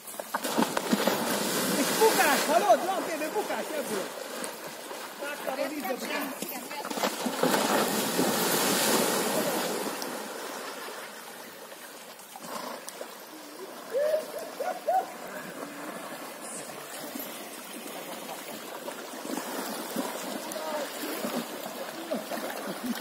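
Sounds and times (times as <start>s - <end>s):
horse splashing through water: 0.0s - 14.6s, 15.2s - 23.0s
river water washing: 0.0s - 23.0s.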